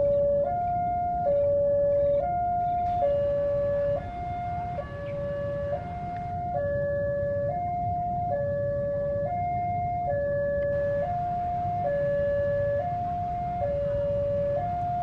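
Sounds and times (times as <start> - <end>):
steady low rumble: 0.0 - 15.0
two-tone level crossing alarm: 0.0 - 15.0.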